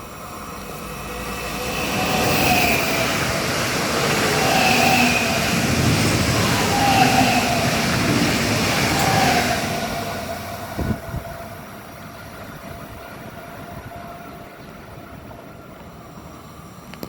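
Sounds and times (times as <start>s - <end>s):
train passing: 0.0s - 17.0s.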